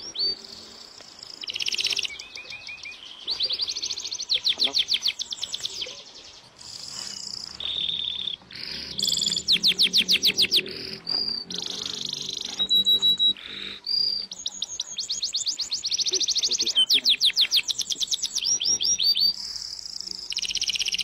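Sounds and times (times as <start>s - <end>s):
bird singing varied song: 0.0s - 21.0s.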